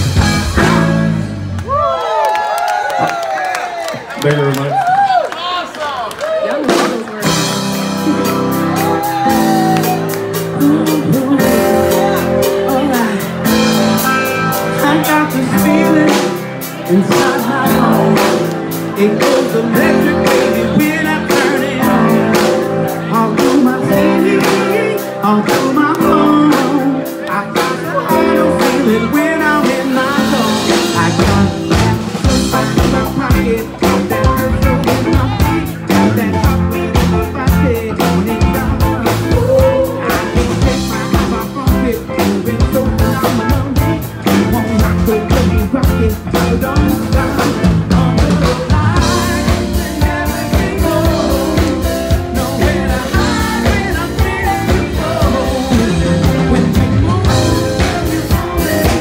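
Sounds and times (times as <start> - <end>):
drum kit: 0.0 - 2.0, 6.5 - 59.0
live rock band playing: 0.0 - 2.0, 6.2 - 59.0
electric guitar: 6.3 - 59.0.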